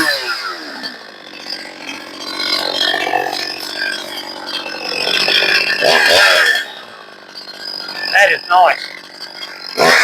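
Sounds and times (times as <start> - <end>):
chainsaw idling: 0.0 - 10.0.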